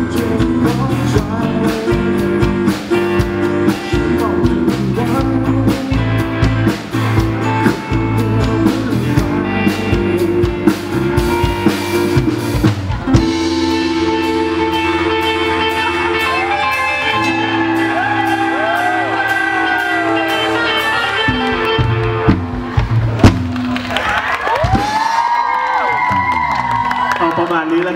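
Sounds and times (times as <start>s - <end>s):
guitar chords: 0.0s - 23.8s
drum kit: 0.0s - 27.0s.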